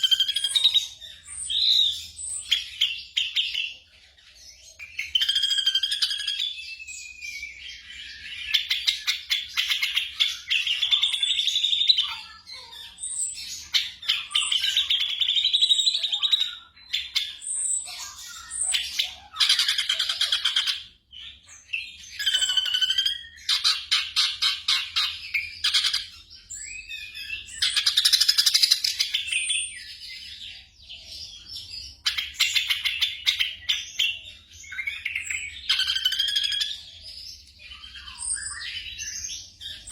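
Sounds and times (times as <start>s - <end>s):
bird singing whistles and chatter: 0.0s - 3.8s, 4.4s - 39.9s.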